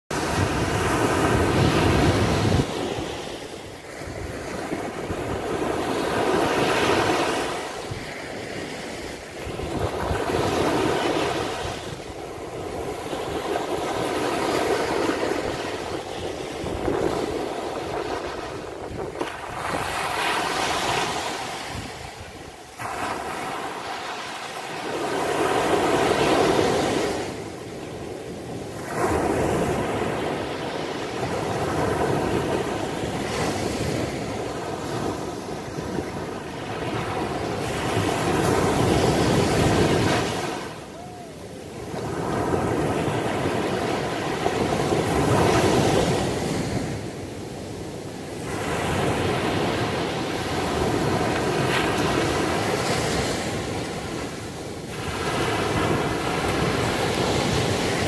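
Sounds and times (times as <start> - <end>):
waves breaking on sandy beach: 0.1 - 58.0.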